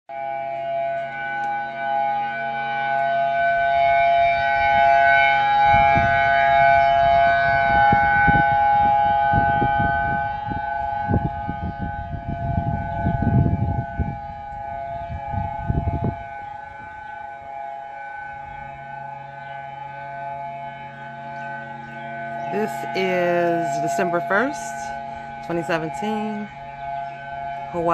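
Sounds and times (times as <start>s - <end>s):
warning siren steady tone: 0.1s - 27.9s.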